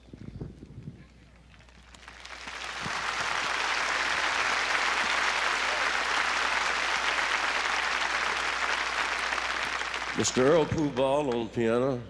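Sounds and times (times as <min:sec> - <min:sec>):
audience applauding: 0:01.5 - 0:11.4.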